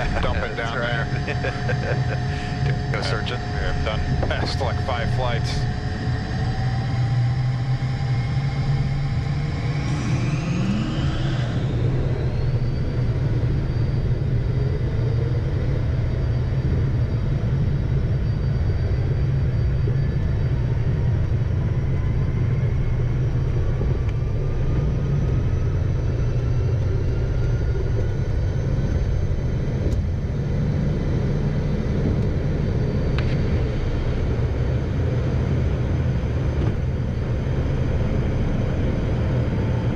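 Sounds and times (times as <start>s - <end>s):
heavy jet rumble: 0.0s - 39.9s
jet engines whining: 0.0s - 39.9s.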